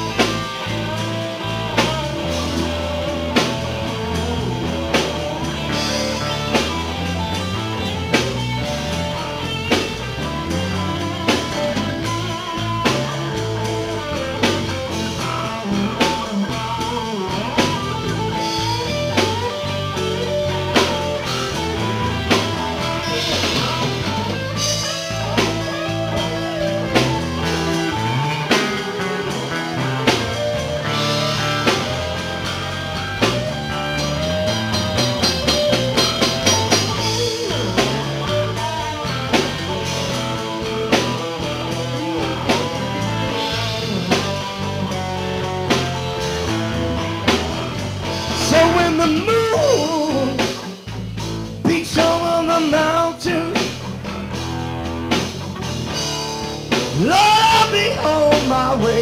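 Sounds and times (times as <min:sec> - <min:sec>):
blues rock band playing: 0:00.0 - 0:59.0.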